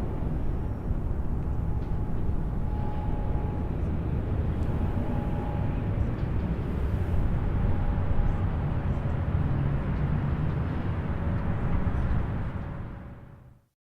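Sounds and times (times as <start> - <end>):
distant highway traffic: 0.0 - 13.6
faint hum: 0.0 - 13.6.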